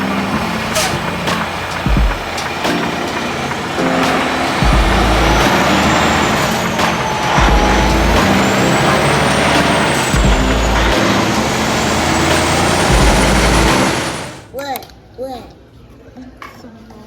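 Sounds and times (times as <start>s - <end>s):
truck engine and road noise: 0.0s - 14.5s.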